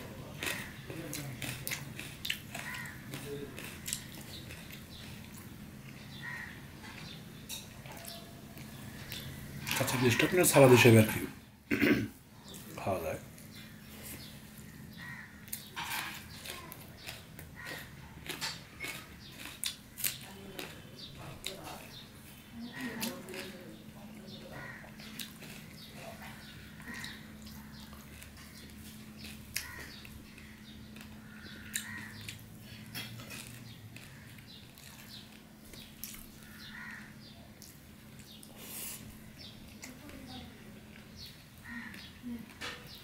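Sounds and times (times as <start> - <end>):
wet chewing: 0.0 - 10.5, 12.4 - 43.0.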